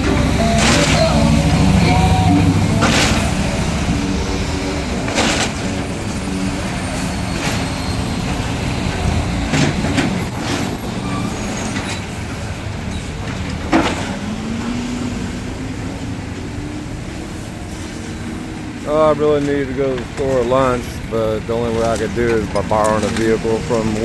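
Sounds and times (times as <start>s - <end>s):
engine pulling away: 0.0s - 24.0s
heavy vehicle engines passing: 0.0s - 24.0s.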